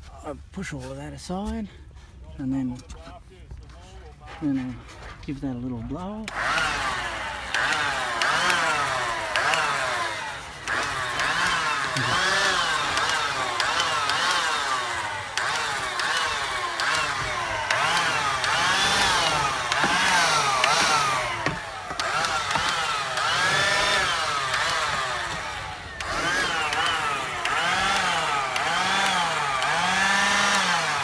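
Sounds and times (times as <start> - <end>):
blower motor revving: 6.0 - 31.0.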